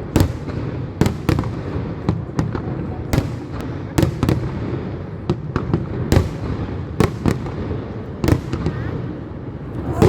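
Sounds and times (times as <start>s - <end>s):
low rumble of fireworks: 0.0s - 10.0s.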